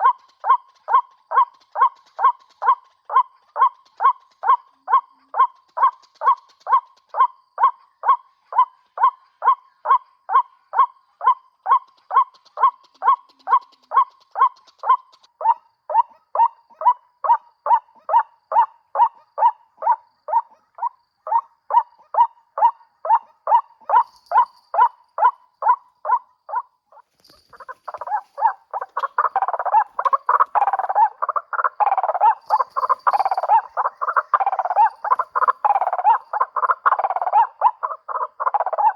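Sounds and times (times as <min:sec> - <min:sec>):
waterhen calls: 0:00.0 - 0:38.9.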